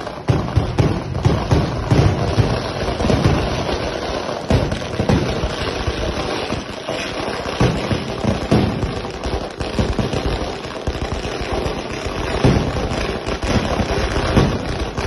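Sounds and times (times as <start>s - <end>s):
fireworks crackling: 0.0s - 15.0s
loud fireworks bangs: 0.0s - 15.0s.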